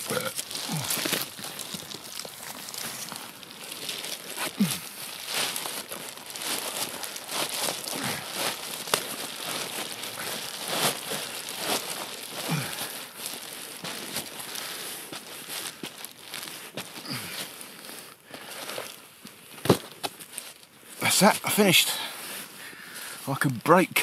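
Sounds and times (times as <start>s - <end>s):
fabric rustling and crinkling: 0.0s - 24.0s.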